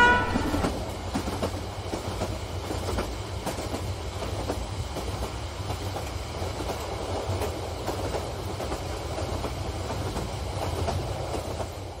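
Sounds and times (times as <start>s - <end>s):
model train rumbling: 0.0s - 12.0s.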